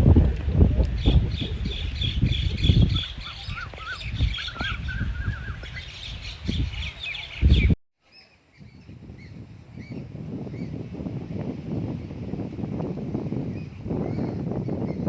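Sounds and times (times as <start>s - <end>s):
wind buffeting microphone: 0.0s - 7.8s, 8.4s - 15.0s
small birds chirping: 0.8s - 15.0s.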